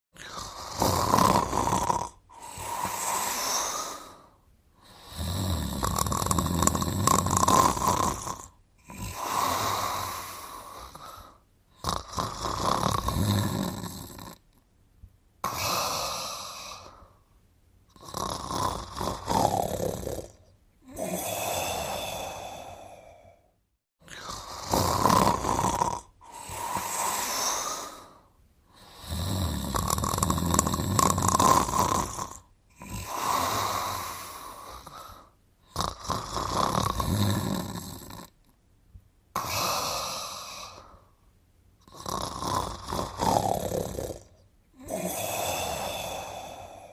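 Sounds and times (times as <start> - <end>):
cartoon character snoring: 0.2 - 14.5, 15.4 - 17.1, 17.9 - 28.2, 28.8 - 38.5, 39.4 - 41.1, 41.8 - 46.9.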